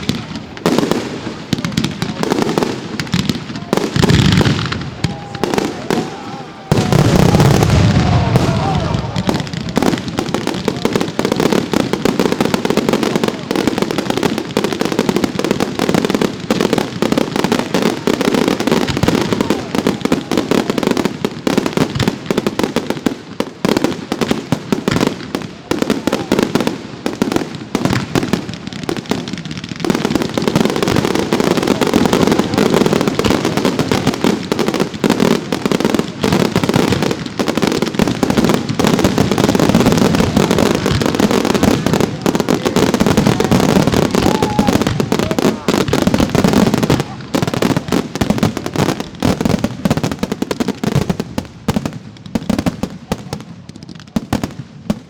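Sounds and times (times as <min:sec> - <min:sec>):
fireworks bursts and crackling: 0:00.0 - 0:55.0.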